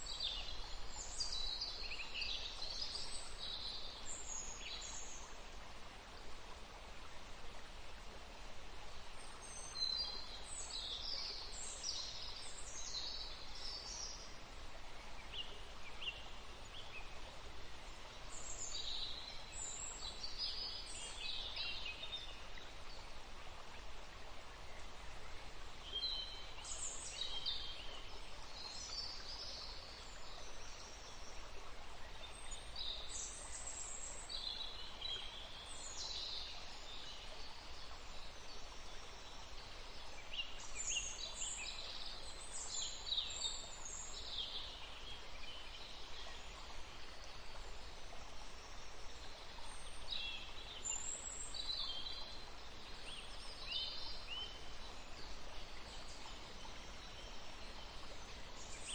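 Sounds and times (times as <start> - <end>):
background hiss: 0.0 - 58.9.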